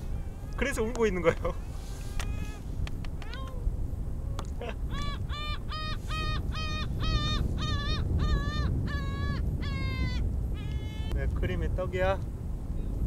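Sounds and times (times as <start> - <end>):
gull calling: 0.0 - 11.2.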